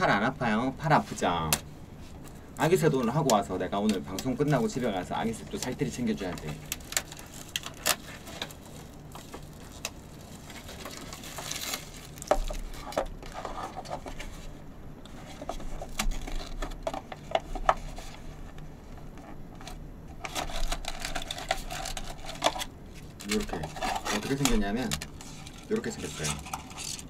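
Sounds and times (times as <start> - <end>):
crinkling plastic and paper packaging: 0.0 - 27.0.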